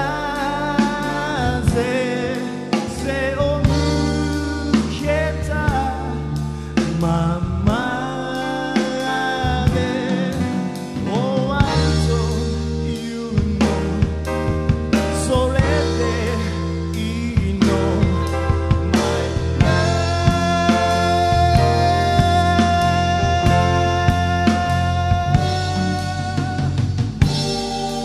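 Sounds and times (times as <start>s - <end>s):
live band playing soul ballad: 0.0s - 28.0s
melodic lead line with vibrato: 0.0s - 28.0s.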